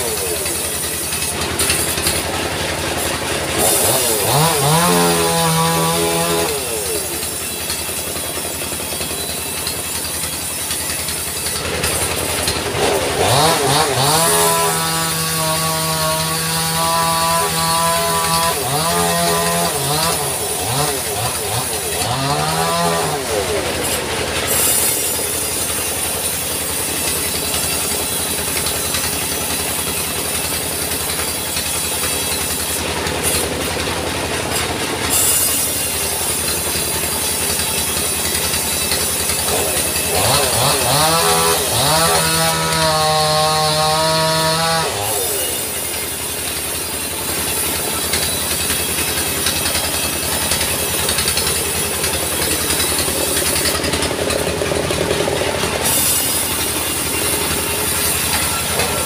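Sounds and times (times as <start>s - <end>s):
saw hissing: 0.0s - 59.0s
sawmill engine drone: 0.0s - 59.0s.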